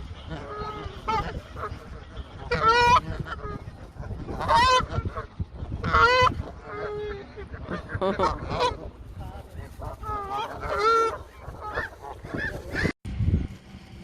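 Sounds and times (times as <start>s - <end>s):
geese honking: 0.0s - 12.9s.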